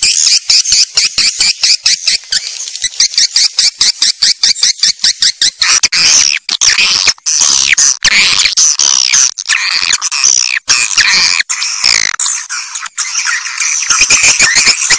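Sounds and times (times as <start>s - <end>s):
swiftlets chirping and twittering: 0.0s - 14.9s.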